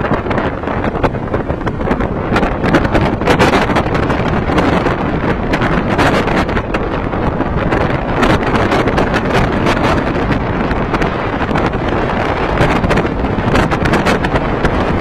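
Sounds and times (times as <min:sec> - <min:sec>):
wind buffeting microphone: 0:00.0 - 0:15.0
wind roaring through trees: 0:00.0 - 0:15.0.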